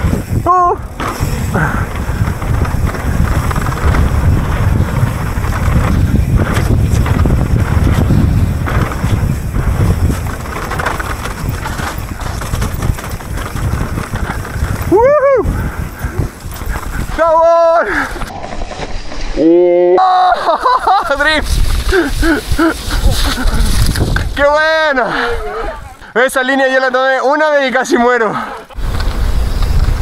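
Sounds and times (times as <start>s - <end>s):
bike rumbling and rattling: 0.0s - 26.0s, 28.4s - 30.0s
wind rushing over microphone: 0.0s - 26.0s, 28.7s - 30.0s.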